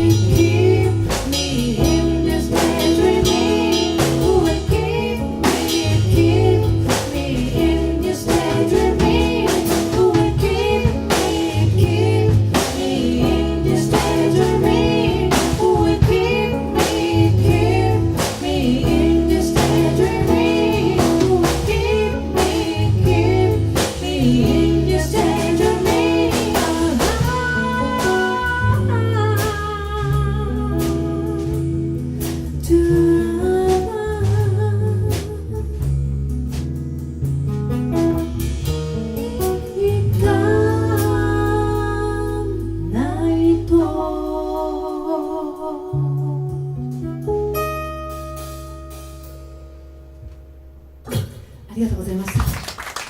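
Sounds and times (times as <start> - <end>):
live band playing slow song: 0.0 - 53.0.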